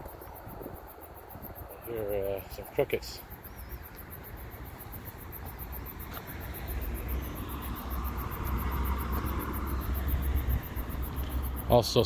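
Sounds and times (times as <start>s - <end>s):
crickets chirping: 0.0s - 12.0s
passing traffic rumble: 0.0s - 12.0s.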